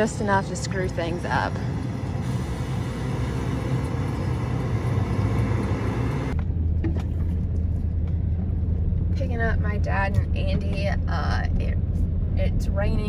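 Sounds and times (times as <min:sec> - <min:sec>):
vehicle drone from inside cab: 0:00.0 - 0:13.0.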